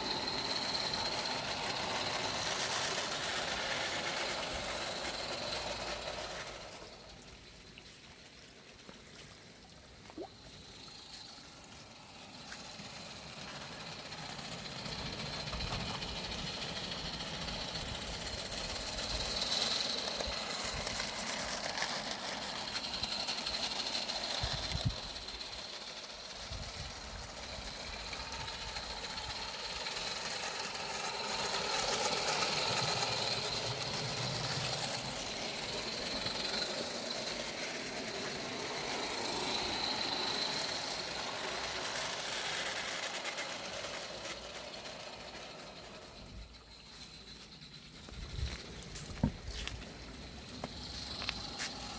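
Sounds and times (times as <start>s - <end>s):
steam locomotive mechanical beat: 0.0s - 51.9s.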